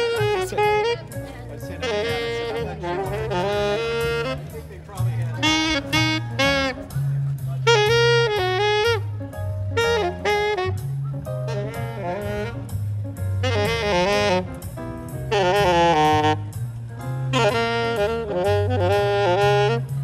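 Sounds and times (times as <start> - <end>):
bass line: 0.0 - 20.0
saxophone melody: 0.0 - 20.0.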